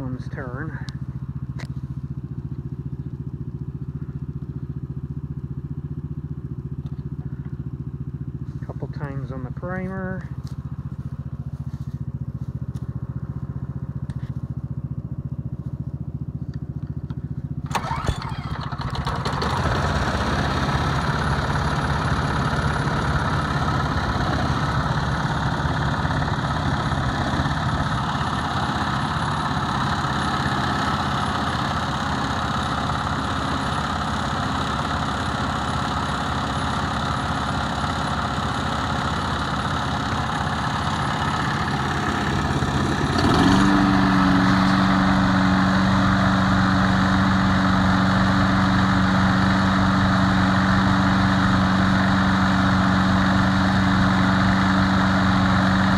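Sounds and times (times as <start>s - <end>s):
lawn mower engine running: 0.0s - 55.9s.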